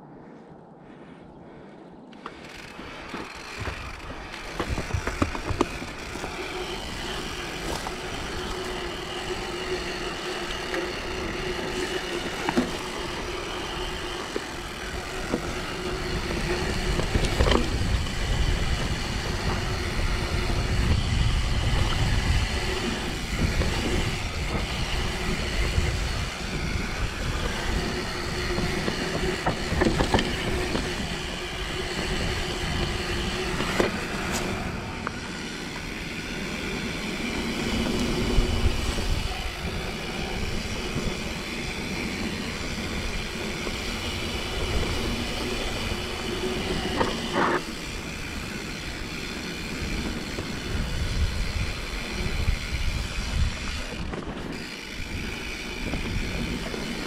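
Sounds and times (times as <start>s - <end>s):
bike tyre rumble and rattling: 1.0s - 57.0s.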